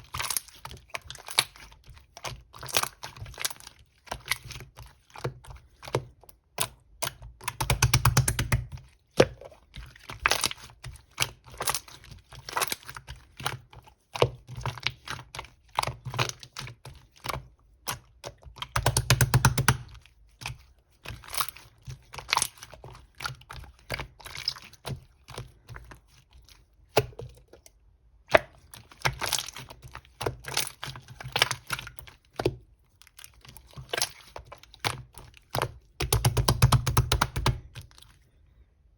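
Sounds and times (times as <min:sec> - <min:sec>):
slime squished by hand: 0:00.0 - 0:38.2.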